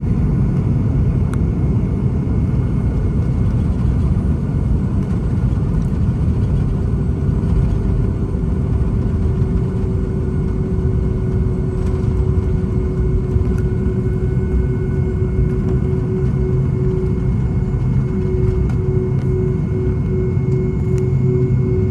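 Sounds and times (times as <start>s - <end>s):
jet engine cabin rumble: 0.0s - 21.9s
steady hum: 0.0s - 21.9s.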